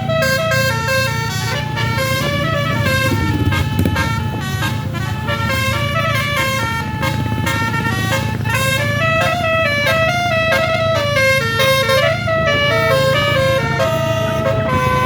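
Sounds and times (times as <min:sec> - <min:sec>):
bus engine humming: 0:00.0 - 0:15.0
bus horn playing melody: 0:00.0 - 0:15.0.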